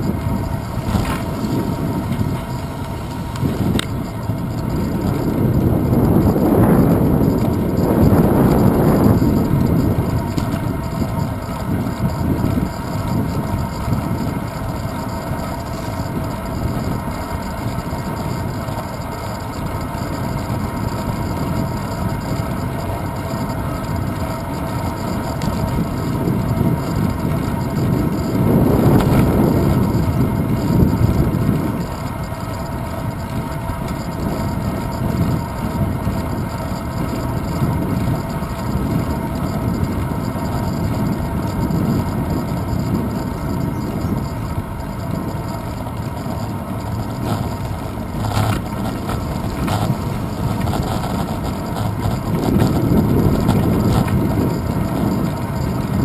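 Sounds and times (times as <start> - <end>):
road rumble: 0.0 - 56.0
wind buffeting: 0.0 - 56.0.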